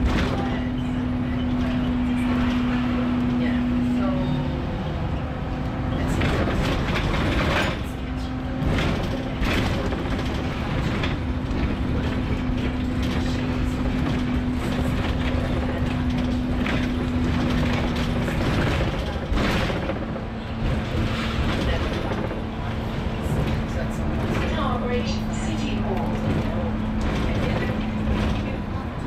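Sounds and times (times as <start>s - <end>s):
low engine hum: 0.0s - 29.0s
road traffic passing: 0.0s - 29.0s.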